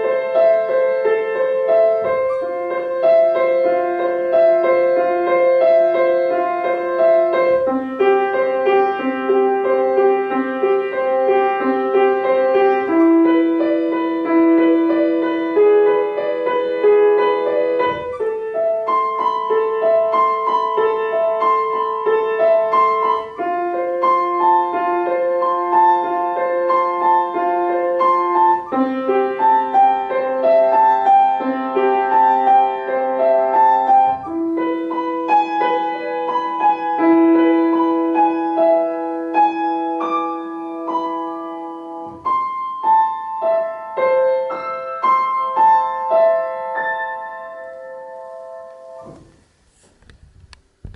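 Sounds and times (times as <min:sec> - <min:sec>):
solo piano piece: 0:00.0 - 0:50.9.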